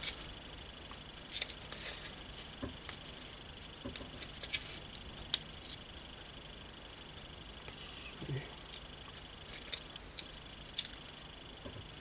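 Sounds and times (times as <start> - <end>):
faint high-pitched whine: 0.0 - 12.0
masking tape crackling: 0.0 - 12.0.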